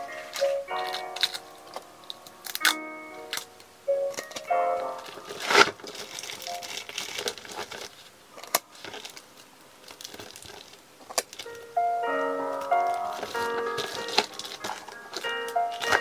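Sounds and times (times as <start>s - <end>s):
wrapping paper crinkling: 0.0s - 16.0s.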